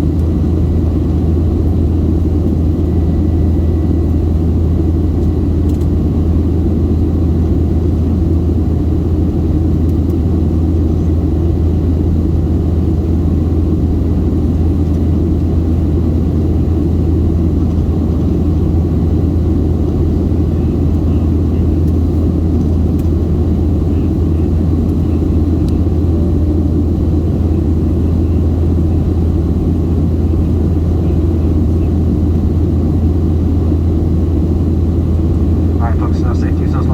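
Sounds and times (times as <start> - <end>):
airplane cabin engine drone: 0.0 - 36.9.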